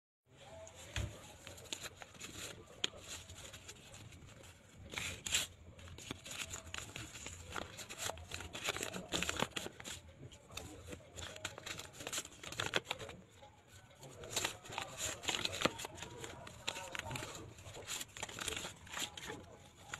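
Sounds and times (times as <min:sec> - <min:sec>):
banknotes rustling: 0:00.6 - 0:19.9
paper envelopes tearing: 0:01.5 - 0:13.2, 0:14.1 - 0:19.9.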